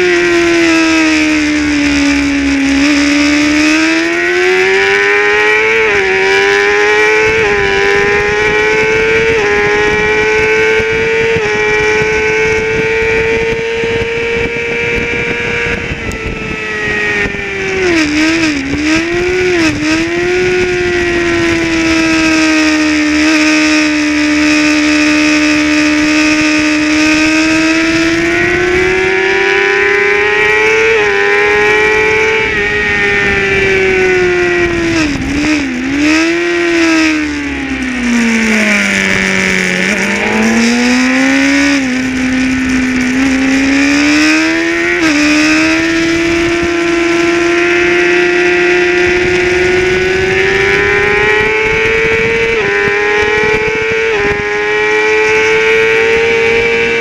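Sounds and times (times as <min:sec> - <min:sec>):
racing motorcycle engine revving: 0:00.0 - 0:57.0
wind rushing: 0:00.0 - 0:57.0.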